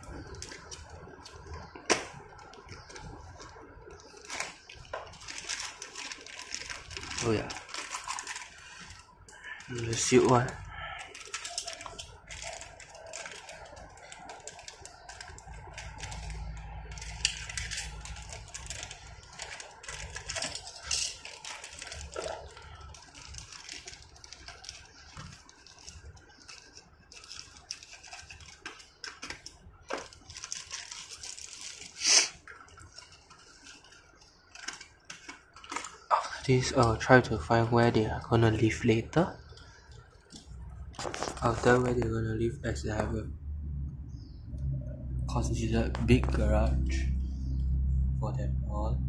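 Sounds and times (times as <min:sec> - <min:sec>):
packaging being handled and opened: 0:00.0 - 0:37.1, 0:38.4 - 0:42.0.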